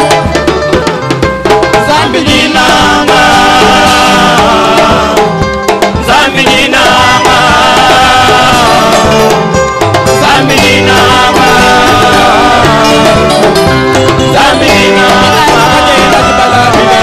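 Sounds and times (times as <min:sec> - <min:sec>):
band with drums playing: 0:00.0 - 0:17.0
several voices singing: 0:01.8 - 0:17.0.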